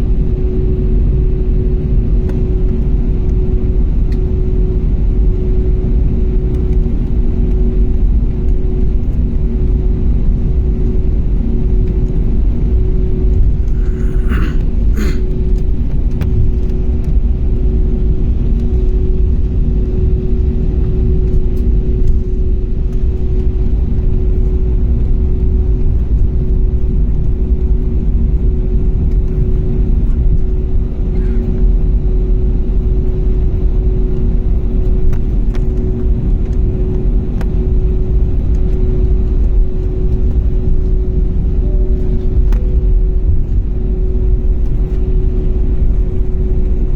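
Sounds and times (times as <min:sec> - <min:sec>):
airliner engine and air rumble: 0:00.0 - 0:46.9.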